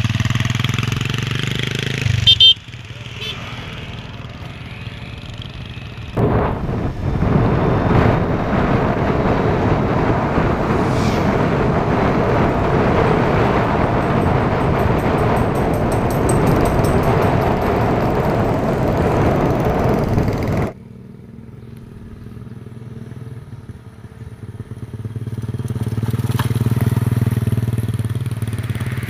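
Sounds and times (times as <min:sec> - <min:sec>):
single-cylinder engine passing by: 0:00.0 - 0:29.0
wind and road rush: 0:00.0 - 0:29.0.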